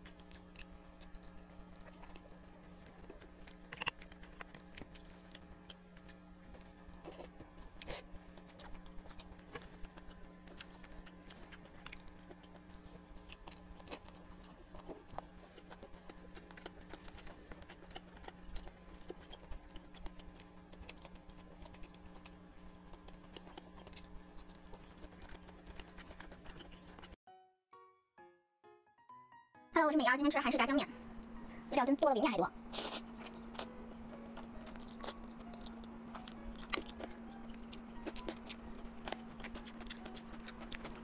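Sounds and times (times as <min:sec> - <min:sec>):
close-miked chewing: 0:00.0 - 0:27.2, 0:32.7 - 0:41.0
steady low hum: 0:00.0 - 0:27.2, 0:29.9 - 0:41.0.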